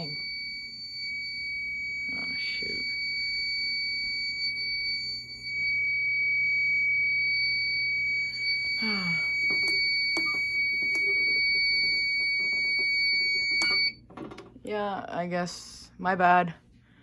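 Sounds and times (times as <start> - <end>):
high-pitched alarm buzzer tone: 0.0 - 14.0.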